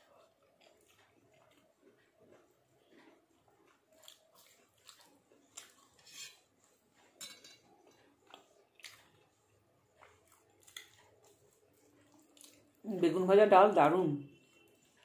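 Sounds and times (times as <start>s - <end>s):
fingers mixing rice on plate: 0.0s - 12.7s.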